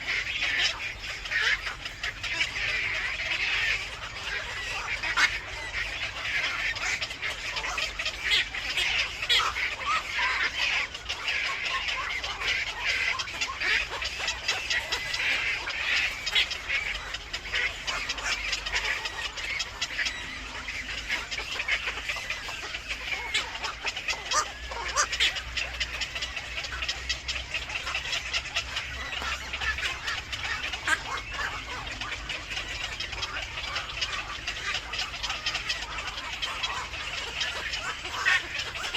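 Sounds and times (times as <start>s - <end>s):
birds chirping and chattering: 0.0s - 38.9s.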